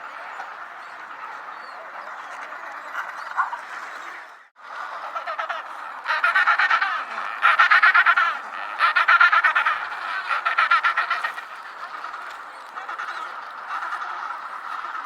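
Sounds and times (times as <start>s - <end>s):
penguins calling: 0.1s - 15.0s.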